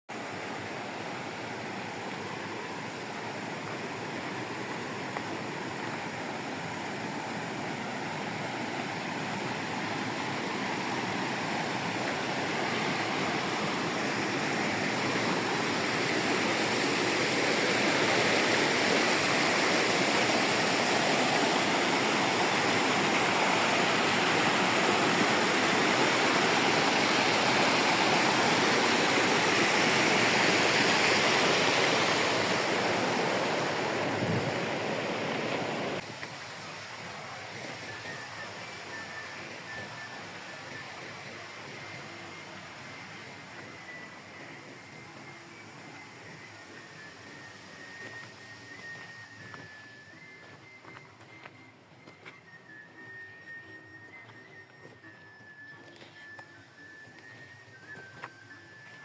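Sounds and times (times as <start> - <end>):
rushing white water: 0.1 - 59.0.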